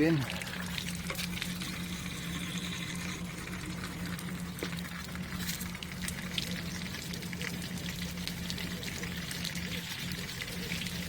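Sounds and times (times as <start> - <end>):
water splashing and dripping: 0.0 - 1.8, 3.4 - 11.0
steady low hum: 0.0 - 11.0
water pouring into radiator: 0.0 - 11.0.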